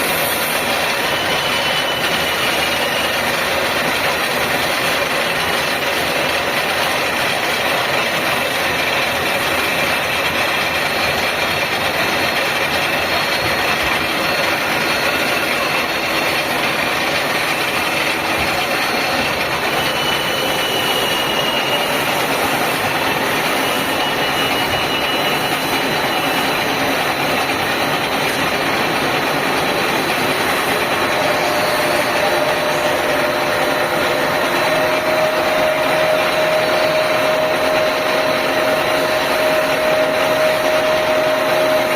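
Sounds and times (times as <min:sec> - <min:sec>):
machine running: 0:00.0 - 0:41.9.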